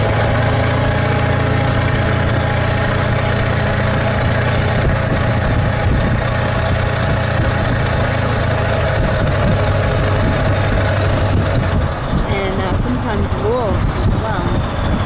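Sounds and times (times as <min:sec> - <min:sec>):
road noise: 0:00.0 - 0:15.0
truck engine running: 0:00.0 - 0:15.0.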